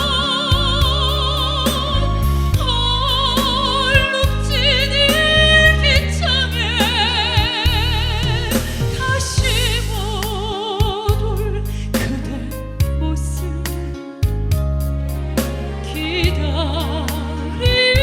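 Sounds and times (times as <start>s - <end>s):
woman singing with vibrato: 0.0s - 13.8s, 15.8s - 18.0s
backing track music: 0.0s - 18.0s.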